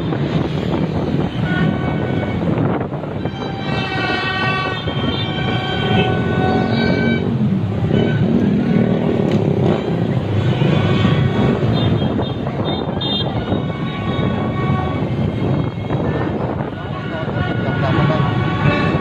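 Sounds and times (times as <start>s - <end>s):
motorbike and scooter engines: 0.0s - 19.0s
wind on microphone: 0.0s - 19.0s
vehicle horns blasting: 0.9s - 19.0s.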